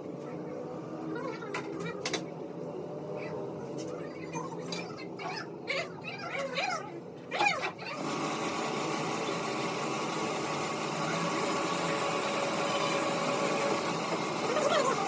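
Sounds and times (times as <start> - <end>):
machine humming steadily: 0.0 - 15.0.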